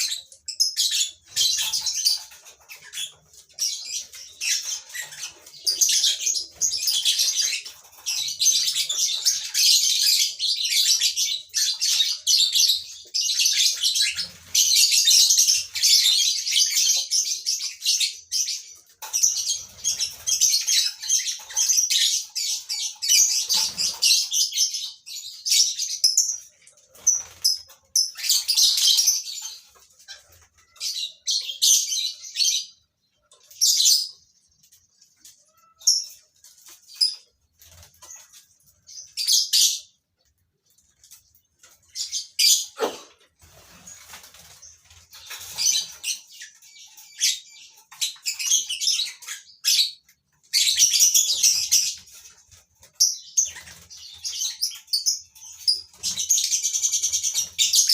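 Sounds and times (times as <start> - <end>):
lovebirds chattering: 0.0 - 57.9.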